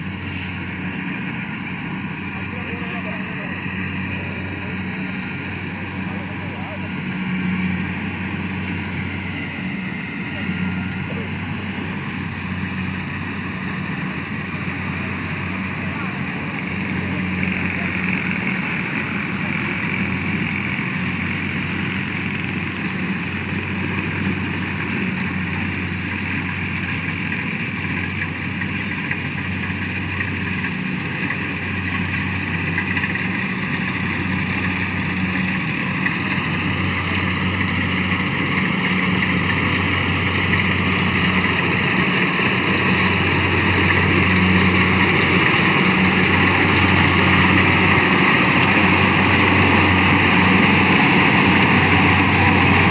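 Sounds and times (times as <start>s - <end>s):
harvesting machine engine running: 0.0s - 52.9s.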